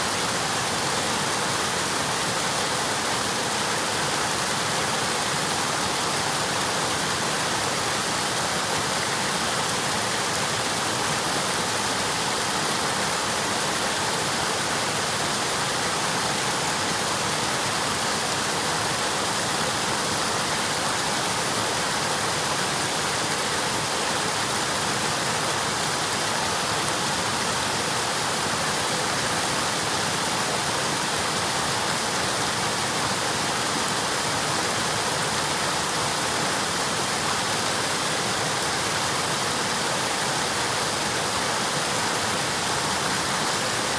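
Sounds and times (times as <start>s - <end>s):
river water flowing over rocks: 0.0s - 43.9s.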